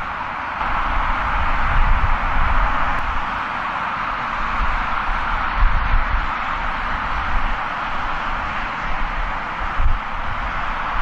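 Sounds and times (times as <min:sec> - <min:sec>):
wind buffeting microphone: 0:00.0 - 0:03.4, 0:04.2 - 0:11.0
jet engine roar: 0:00.0 - 0:11.0.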